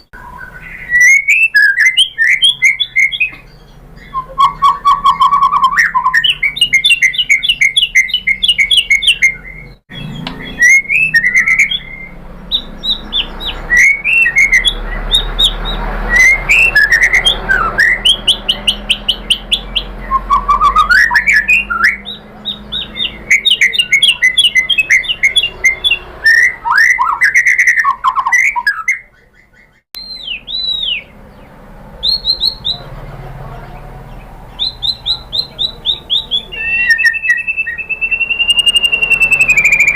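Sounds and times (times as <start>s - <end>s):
songbird singing fast song: 0.0s - 39.9s.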